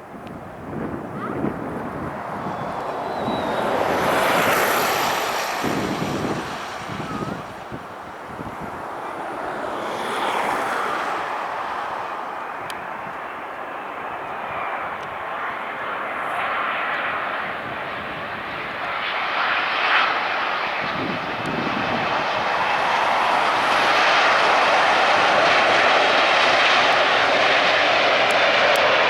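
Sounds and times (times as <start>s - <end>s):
airliner engine rushing: 0.0s - 29.0s.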